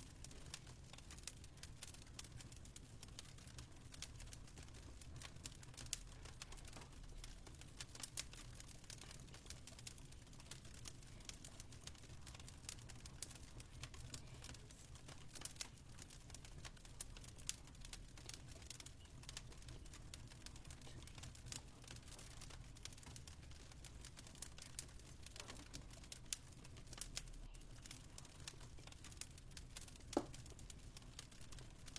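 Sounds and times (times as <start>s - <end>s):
fire crackling and popping: 0.0s - 31.9s.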